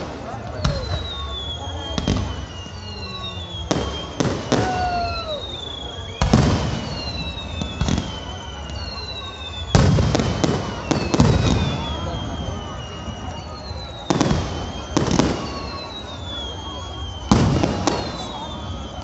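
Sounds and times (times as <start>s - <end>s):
fireworks booming: 0.0s - 19.0s
fireworks whistling: 0.0s - 19.0s.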